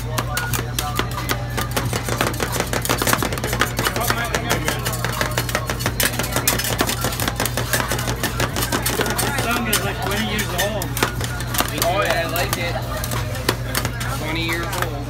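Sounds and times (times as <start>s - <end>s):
metal spatulas clacking and scraping: 0.0s - 15.0s
steady low hum: 0.0s - 15.0s.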